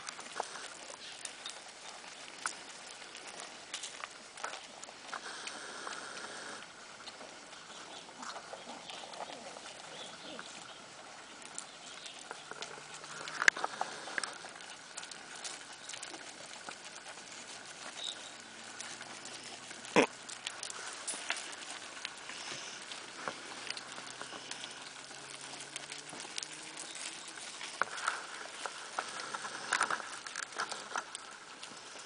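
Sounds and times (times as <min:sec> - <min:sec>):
paws pattering on stony dirt: 0:00.0 - 0:32.0.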